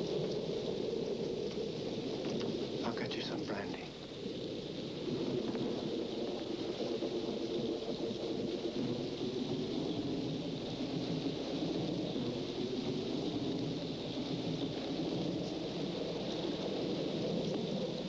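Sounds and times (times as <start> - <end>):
steady rushing rumbling noise: 0.0 - 18.0.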